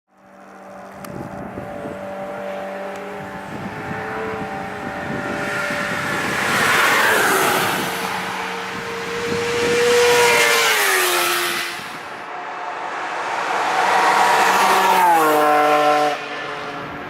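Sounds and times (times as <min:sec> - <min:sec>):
cars passing at speed: 0:00.2 - 0:17.0.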